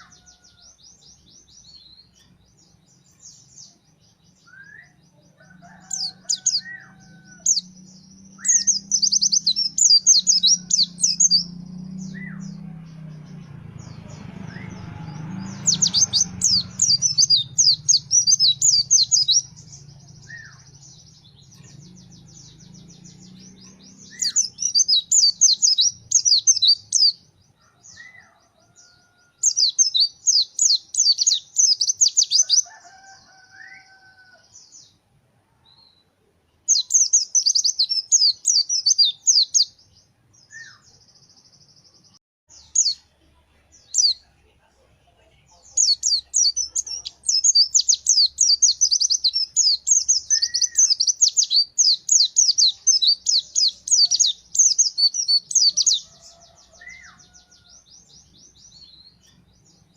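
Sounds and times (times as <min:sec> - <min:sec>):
bird twittering song: 0:00.0 - 0:35.0, 0:35.7 - 0:44.3, 0:45.5 - 0:59.9.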